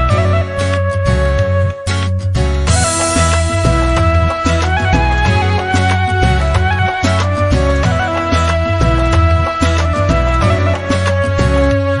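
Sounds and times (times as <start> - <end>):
instrumental melody over bass beat: 0.0 - 12.0.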